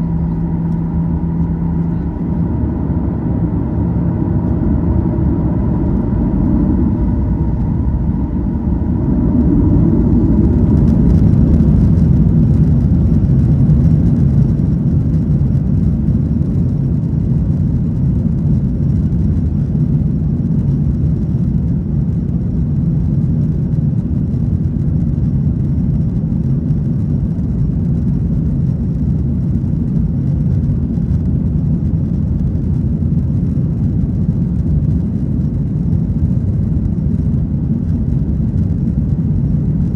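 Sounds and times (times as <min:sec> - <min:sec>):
jet engine roar in cabin: 0:00.0 - 0:39.9
light engine whine: 0:00.0 - 0:39.9.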